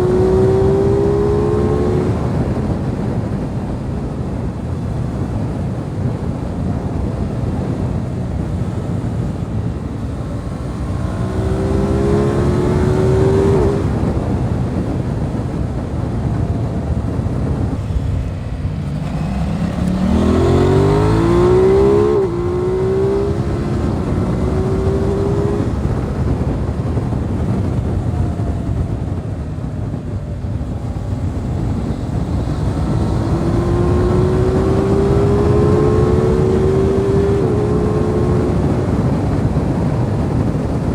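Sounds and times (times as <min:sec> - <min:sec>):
motorcycle engine accelerating hard: 0:00.0 - 0:40.9
wind noise rushing: 0:00.0 - 0:40.9.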